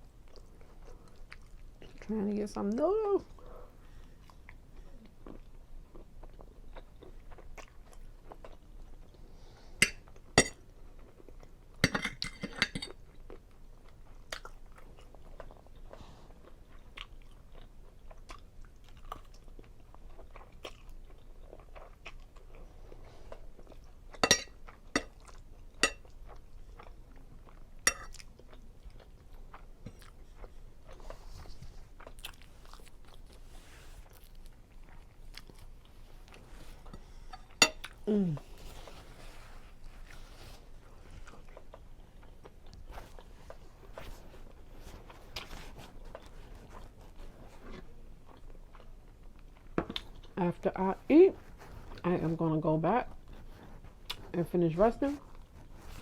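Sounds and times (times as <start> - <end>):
close chewing of food: 0.0 - 56.0.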